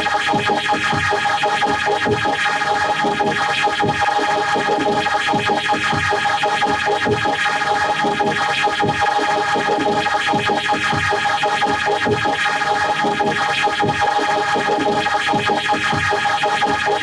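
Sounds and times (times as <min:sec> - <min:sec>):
distorted electronic music with beat: 0:00.0 - 0:17.0.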